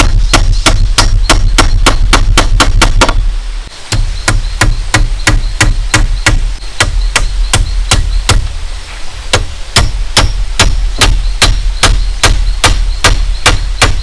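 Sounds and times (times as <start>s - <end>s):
hand tool striking bamboo: 0.0s - 3.3s, 3.9s - 14.0s
steady low rumble: 0.0s - 14.0s.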